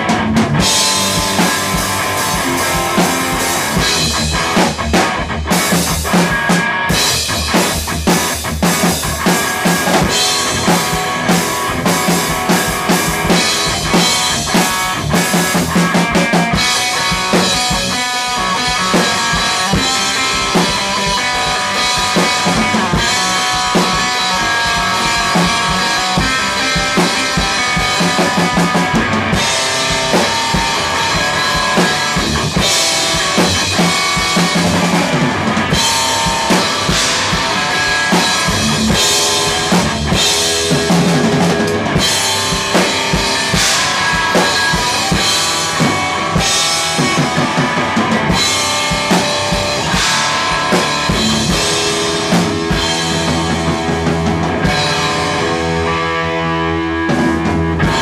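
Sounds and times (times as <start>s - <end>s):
distorted electric guitar: 0.0s - 58.0s
drum kit played hard: 0.0s - 58.0s.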